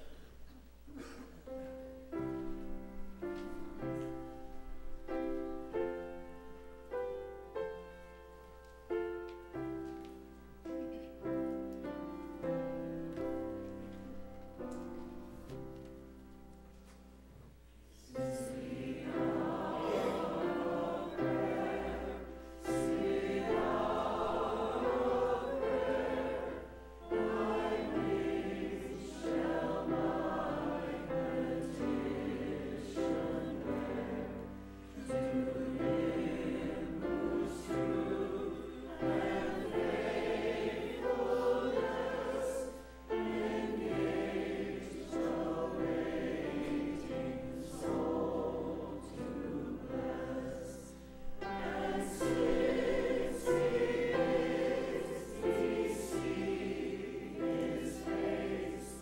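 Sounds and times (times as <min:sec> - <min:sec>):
church choir singing: 0:00.0 - 0:17.0, 0:17.8 - 0:59.0.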